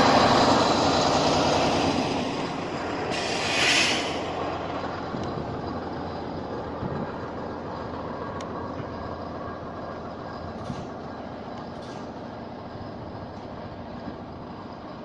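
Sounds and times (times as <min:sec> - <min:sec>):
rumbling outdoor noise: 0:00.0 - 0:15.0.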